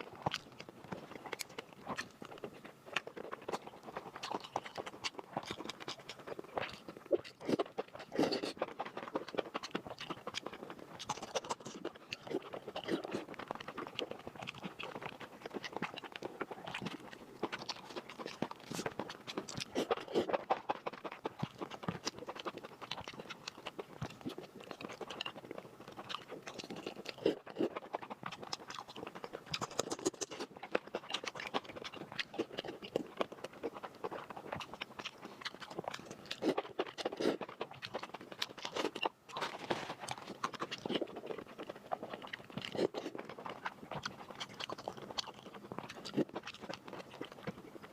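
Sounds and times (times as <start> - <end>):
person chewing and crunching food: 0.0 - 47.9.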